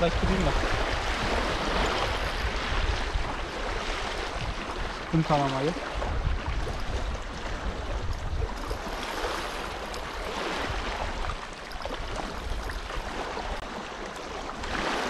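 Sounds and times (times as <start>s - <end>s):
water sloshing and splashing: 0.0s - 15.0s
wind rumbling on microphone: 0.0s - 15.0s.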